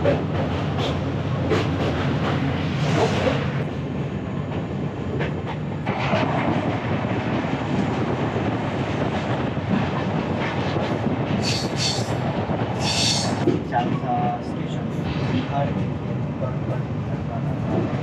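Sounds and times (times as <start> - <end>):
train wheels rushing on rails: 0.0 - 18.0.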